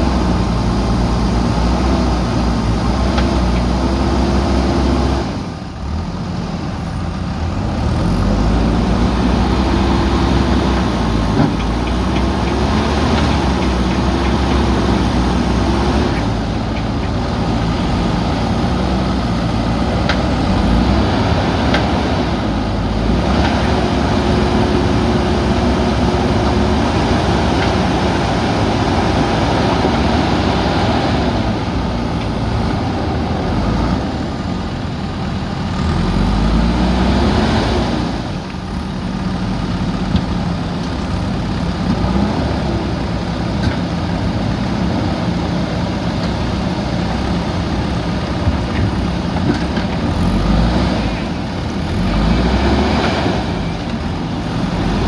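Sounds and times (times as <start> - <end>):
diesel engines revving under load: 0.0 - 55.0.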